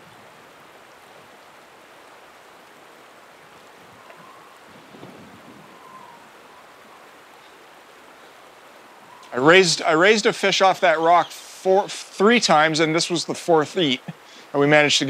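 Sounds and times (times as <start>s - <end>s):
river current rushing: 0.0s - 15.0s.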